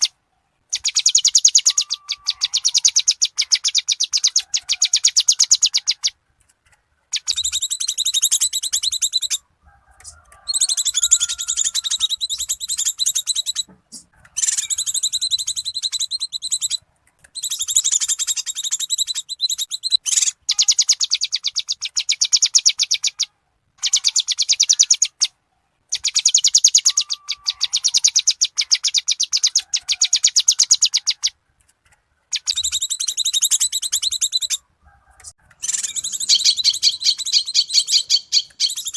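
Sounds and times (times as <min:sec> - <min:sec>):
bird chattering calls: 0:00.0 - 0:06.2, 0:07.1 - 0:09.4, 0:10.0 - 0:16.8, 0:17.4 - 0:25.3, 0:25.9 - 0:31.4, 0:32.3 - 0:34.6, 0:35.2 - 0:38.9.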